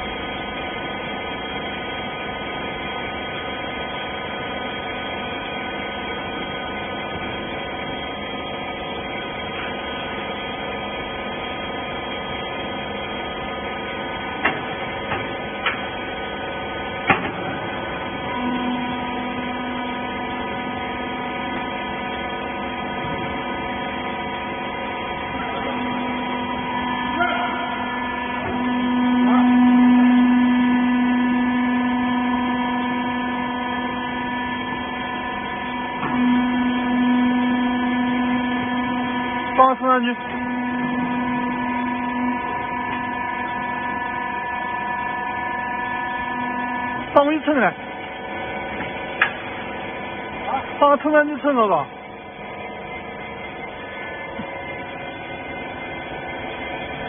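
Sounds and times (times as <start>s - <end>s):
hydraulic pump motor humming: 0.0s - 57.0s.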